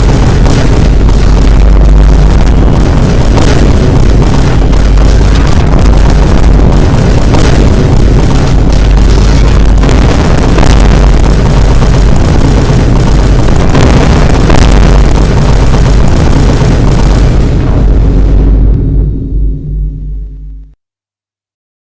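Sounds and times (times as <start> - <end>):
distorted boom sound effects melody: 0.0 - 20.8.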